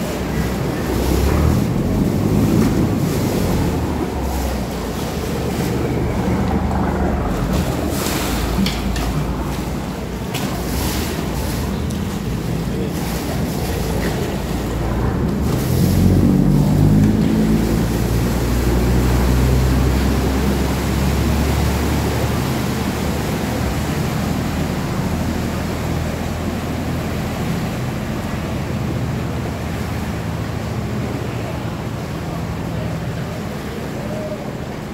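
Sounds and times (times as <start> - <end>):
boat engine revving: 0.0 - 34.9
propeller wash churning: 0.0 - 34.9.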